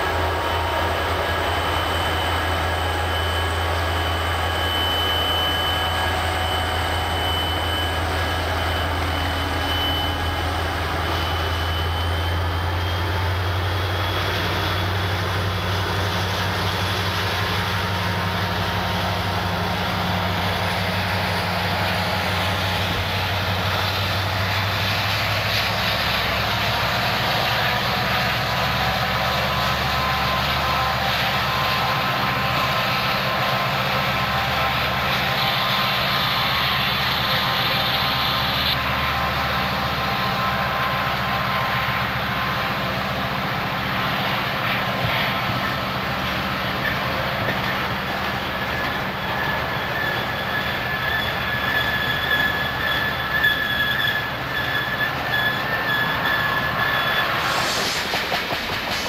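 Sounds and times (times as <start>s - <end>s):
diesel locomotive engines rumbling: 0.0s - 59.0s
high wheel squeal: 0.0s - 59.0s
train wheels rushing on rail: 0.0s - 59.0s.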